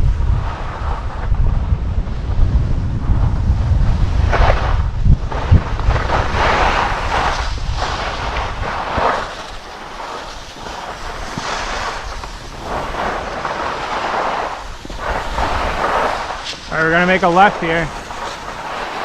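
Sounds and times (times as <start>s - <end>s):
skis scraping on snow: 0.0s - 19.0s
wind buffeting microphone: 0.0s - 19.0s.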